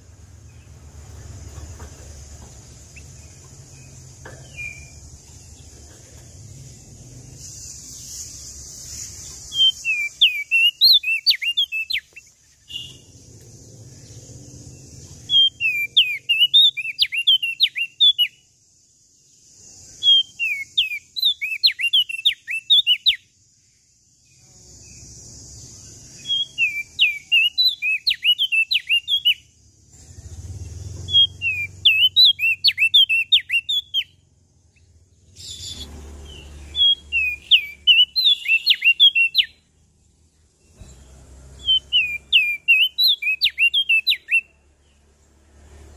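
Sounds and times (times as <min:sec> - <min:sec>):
songbird singing chirped notes: 0:00.0 - 0:45.9.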